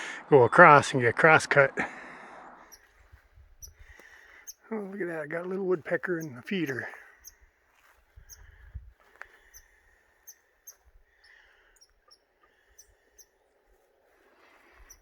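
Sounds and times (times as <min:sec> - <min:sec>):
small birds chip calls: 0:02.7 - 0:15.0.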